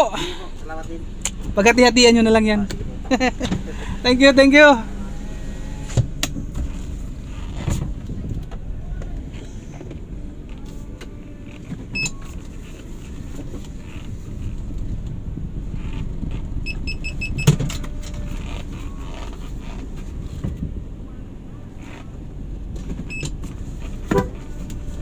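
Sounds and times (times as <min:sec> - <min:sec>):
car rumbling: 0:00.0 - 0:25.0.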